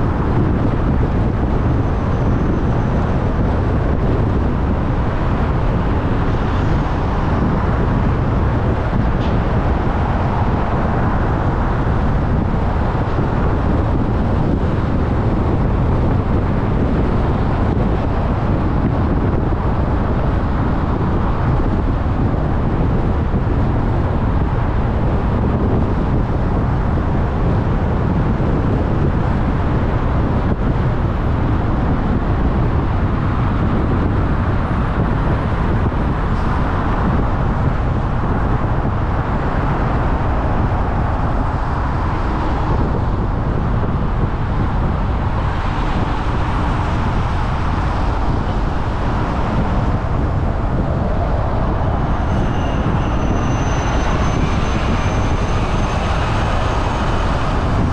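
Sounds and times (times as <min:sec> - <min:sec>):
car road noise: 0:00.0 - 0:57.9.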